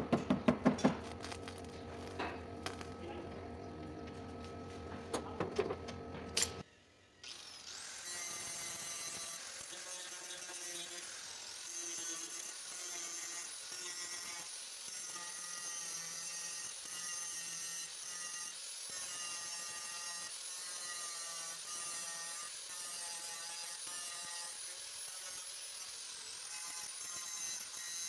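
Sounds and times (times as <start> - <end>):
angle grinder grinding steel: 0.8 - 5.5, 7.2 - 28.0.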